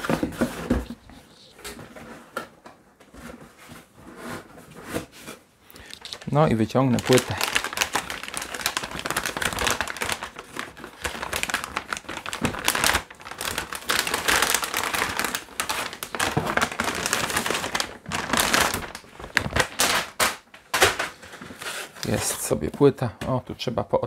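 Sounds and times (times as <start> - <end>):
packaging crinkling and rustling: 0.0 - 2.5, 3.1 - 23.0.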